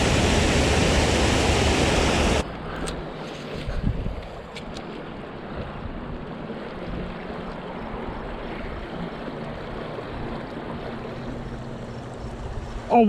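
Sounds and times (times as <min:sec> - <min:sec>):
creek water running: 0:00.0 - 0:02.4, 0:04.9 - 0:13.0.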